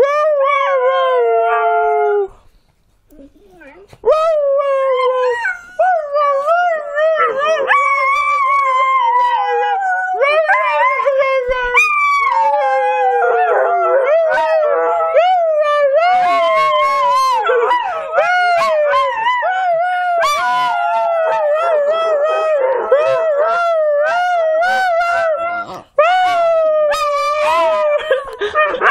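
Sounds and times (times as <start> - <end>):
dogs howling: 4.2 - 28.9.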